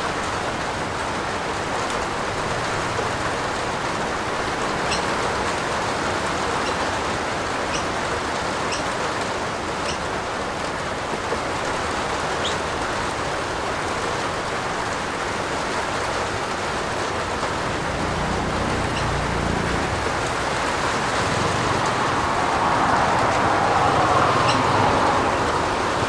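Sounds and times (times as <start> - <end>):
rain falling on a roof: 0.0 - 26.0.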